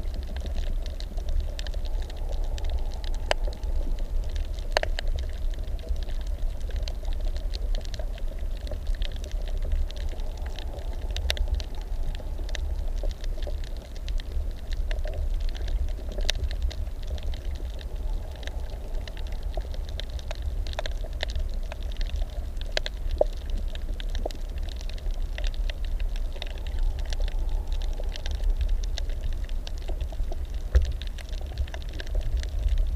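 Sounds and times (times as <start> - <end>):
low underwater rumble: 0.0 - 32.9.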